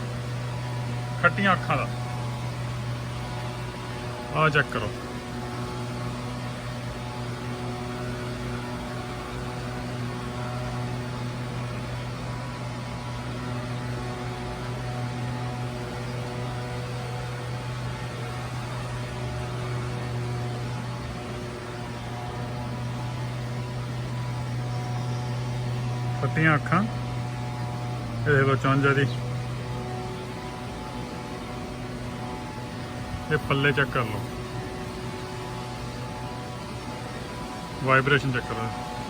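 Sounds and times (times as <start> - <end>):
electrical motor hum: 0.0 - 39.0.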